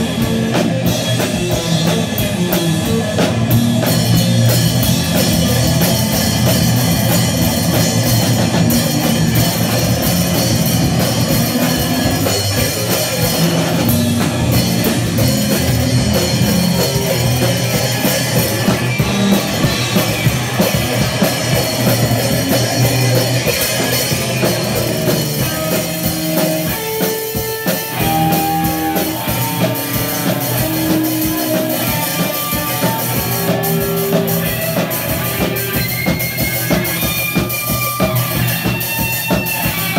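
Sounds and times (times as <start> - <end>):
held electric guitar notes: 0.0 - 39.9
punk rock band playing: 0.0 - 39.9.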